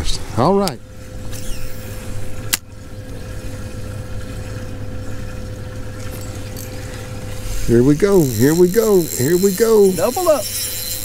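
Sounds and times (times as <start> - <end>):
electric trolling motor humming: 0.6 - 11.0.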